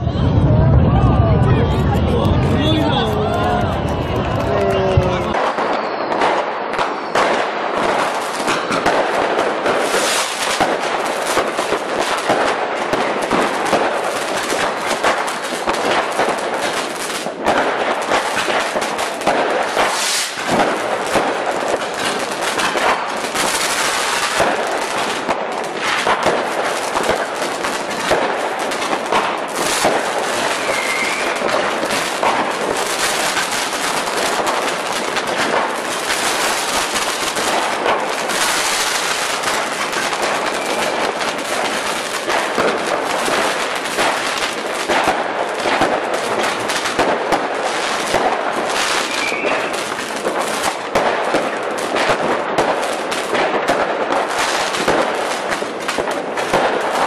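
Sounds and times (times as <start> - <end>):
fireworks crackling and popping: 0.0 - 57.0.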